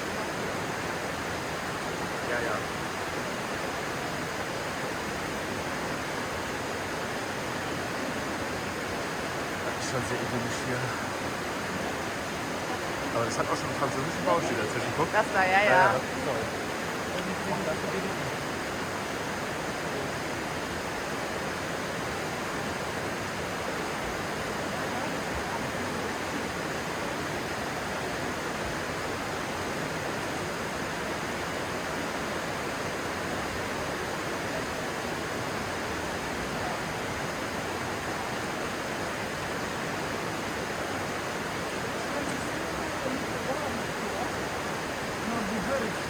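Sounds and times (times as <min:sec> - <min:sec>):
stream water rushing over stones: 0:00.0 - 0:46.0.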